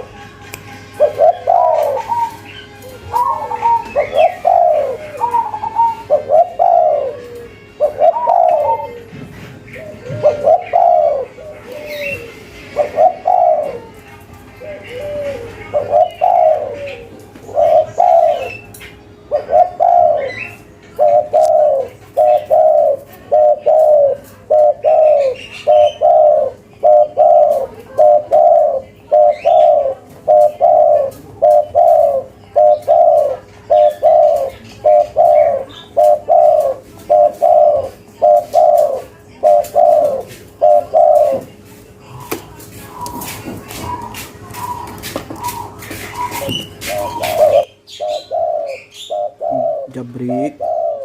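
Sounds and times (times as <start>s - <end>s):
dove cooing: 1.0s - 51.0s.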